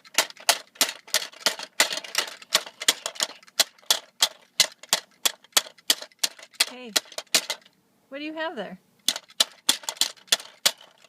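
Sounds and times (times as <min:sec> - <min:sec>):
toy clacking: 0:00.0 - 0:07.8, 0:09.0 - 0:11.0.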